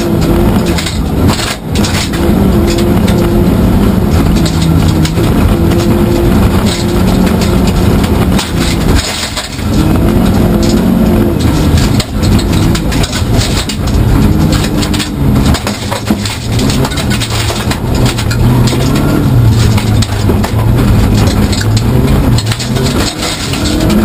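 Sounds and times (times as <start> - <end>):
car engine revving: 0.0 - 24.0
gravel rattling under car: 0.0 - 24.0.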